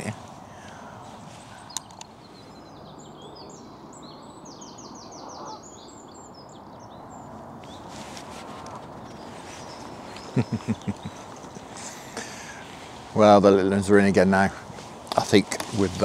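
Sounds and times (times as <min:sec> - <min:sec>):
distant road traffic rumble: 0:00.0 - 0:16.0
small birds singing: 0:00.0 - 0:16.0.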